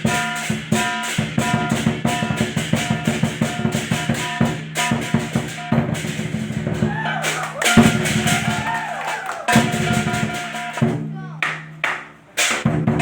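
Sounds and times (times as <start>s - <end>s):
big drum beating: 0.0s - 13.0s
cymbals clashing: 0.0s - 13.0s.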